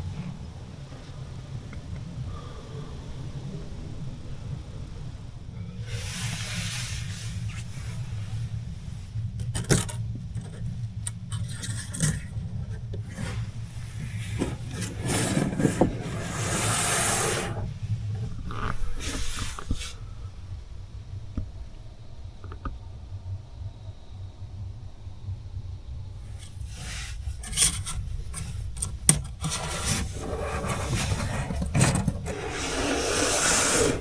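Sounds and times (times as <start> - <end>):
strong wind buffeting a van: 0.0 - 34.0.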